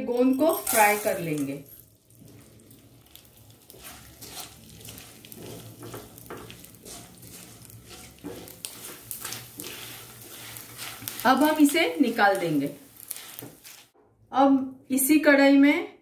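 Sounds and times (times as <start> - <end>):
edible gum frying in hot fat: 0.4 - 14.0
spatula stirring and scraping: 0.4 - 14.0
small crackles: 0.6 - 14.0.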